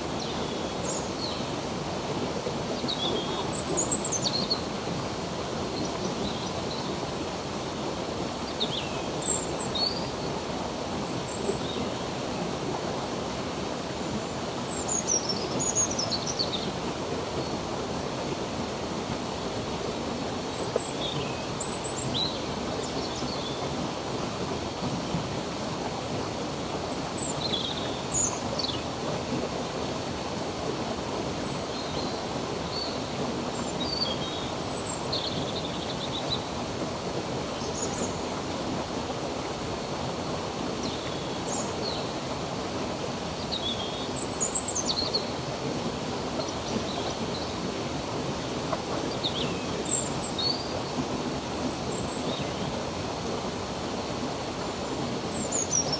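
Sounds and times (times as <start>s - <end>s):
stream water running: 0.0s - 55.9s.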